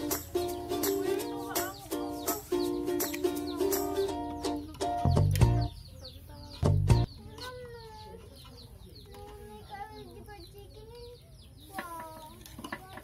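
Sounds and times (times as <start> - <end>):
chickens clucking: 0.0 - 13.0
chicks peeping: 0.0 - 13.0.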